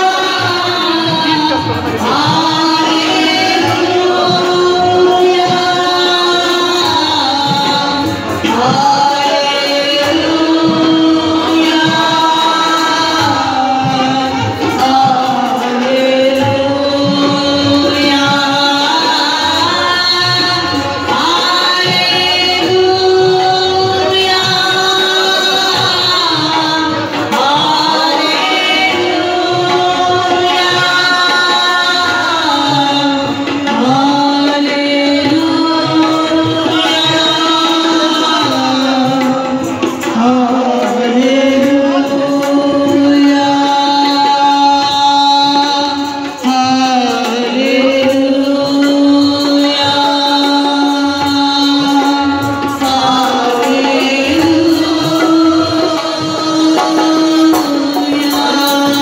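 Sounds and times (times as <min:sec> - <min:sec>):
person singing: 0:00.0 - 0:59.0
tabla drumming: 0:00.0 - 0:59.0.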